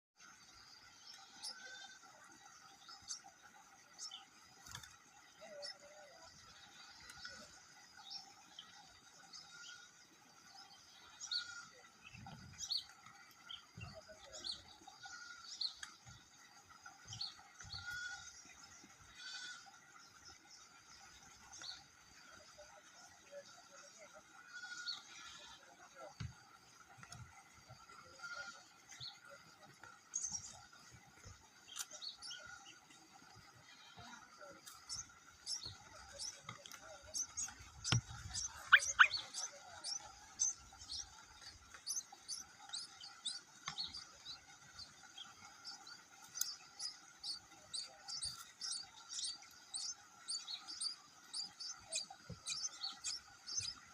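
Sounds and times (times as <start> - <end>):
birds chirping: 0.3 - 53.9.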